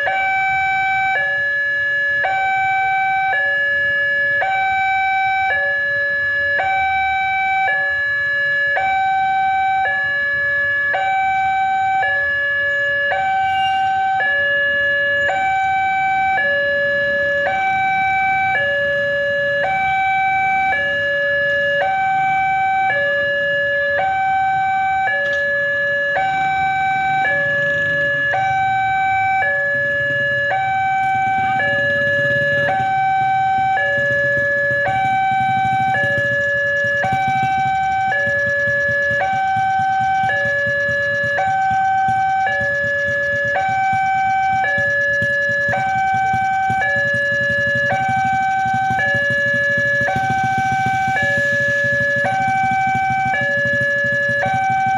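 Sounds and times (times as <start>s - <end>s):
two-tone level crossing alarm: 0.0s - 54.9s.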